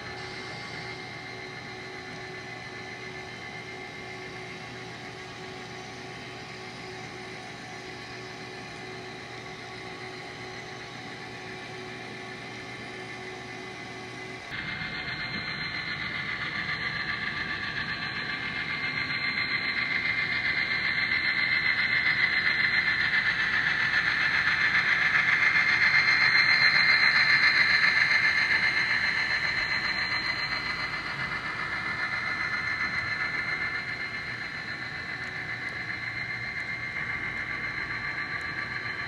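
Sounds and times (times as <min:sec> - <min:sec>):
model train whine: 0:00.0 - 0:39.0.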